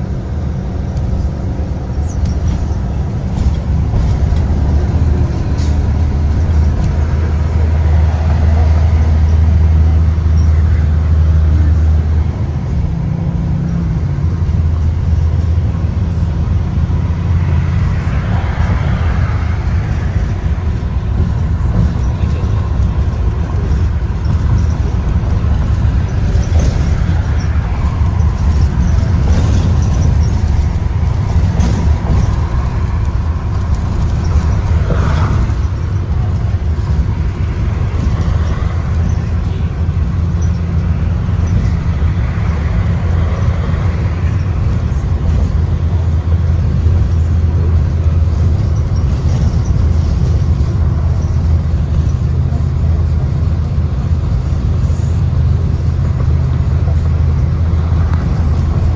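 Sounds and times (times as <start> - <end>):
bus engine and road rumble: 0.0 - 58.9.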